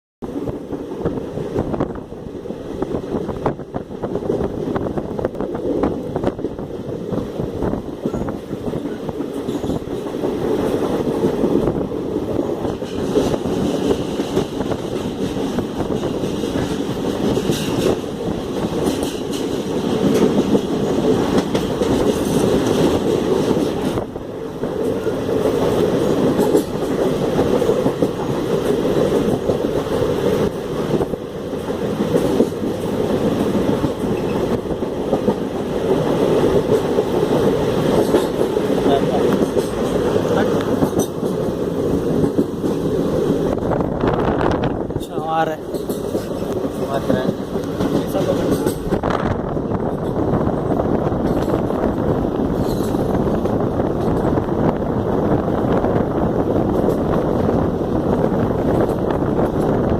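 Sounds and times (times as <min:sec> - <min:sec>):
train wheels rumbling on rails: 0:00.2 - 0:59.9
wheels clicking over rail joints: 0:02.8 - 0:59.9.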